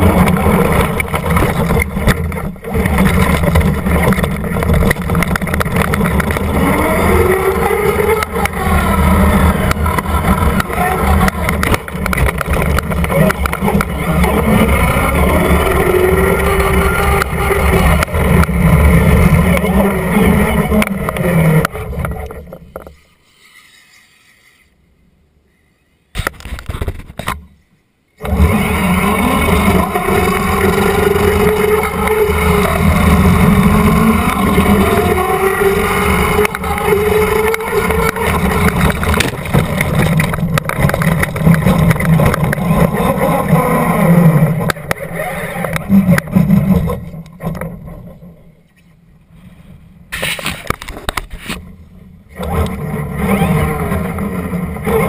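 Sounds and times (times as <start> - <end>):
rc car motor whining: 0.0 - 22.3, 28.2 - 47.7, 52.3 - 55.0
low rough rumble: 0.0 - 22.9, 28.2 - 55.0.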